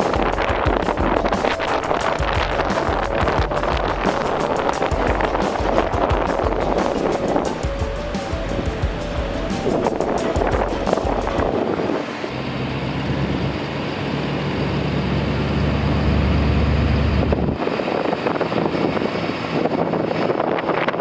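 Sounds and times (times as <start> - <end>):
wind noise: 0.0 - 14.4, 15.1 - 21.0
engine running steadily: 0.0 - 21.0.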